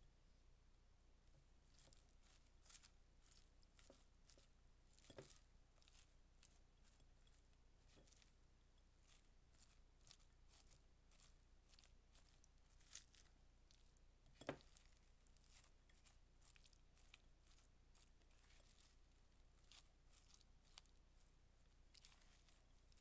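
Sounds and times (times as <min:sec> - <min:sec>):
wet squishing of food mixing: 0:01.4 - 0:23.0.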